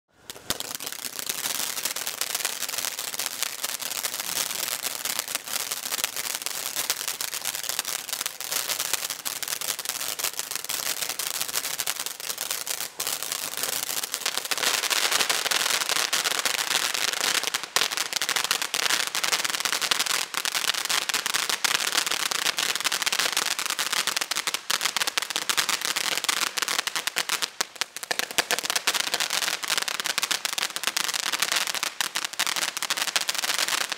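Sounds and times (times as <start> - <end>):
fireworks fountain hissing and crackling: 0.1 - 33.9.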